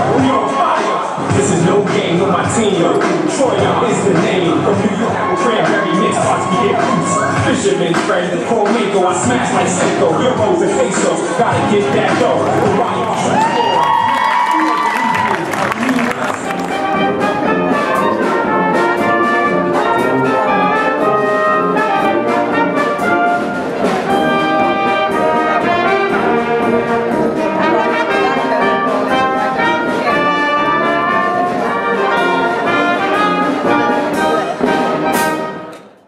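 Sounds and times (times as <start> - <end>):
brass music with steady beat: 0.0 - 36.0.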